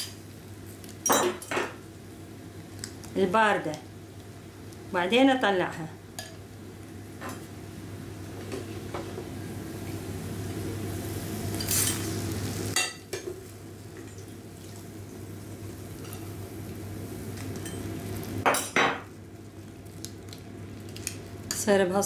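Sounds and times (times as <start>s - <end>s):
dough sizzling in hot oil: 0.0s - 22.0s.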